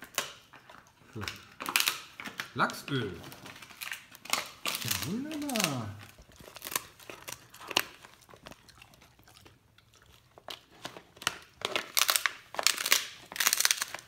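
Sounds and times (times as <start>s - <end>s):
dog gnawing and crunching: 0.0s - 14.0s.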